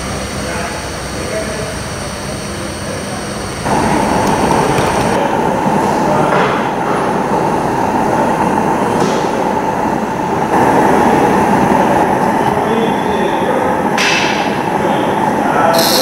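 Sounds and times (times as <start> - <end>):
model steam locomotive running: 0.0 - 16.0.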